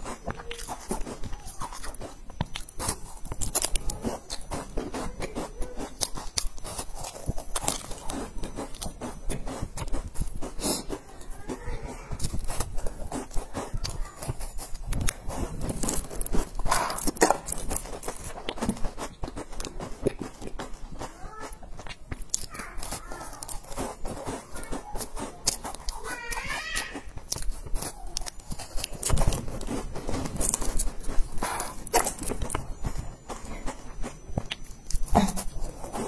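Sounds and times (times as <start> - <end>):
crunching cookies: 0.0 - 36.0.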